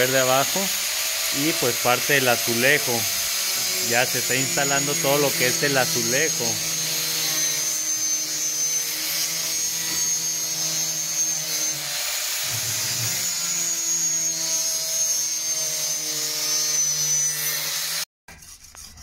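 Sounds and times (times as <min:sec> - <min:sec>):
power saw cutting plywood: 0:00.0 - 0:19.0.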